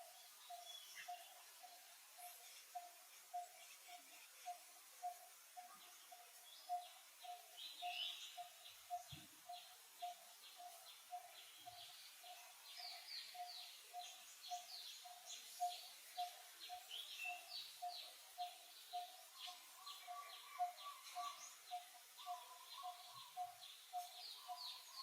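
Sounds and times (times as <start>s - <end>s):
faint birdsong chirps: 0.0s - 25.0s.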